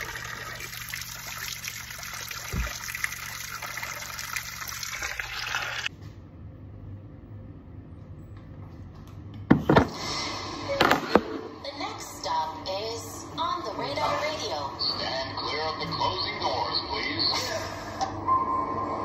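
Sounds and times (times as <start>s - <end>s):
room hum: 0.0s - 19.0s.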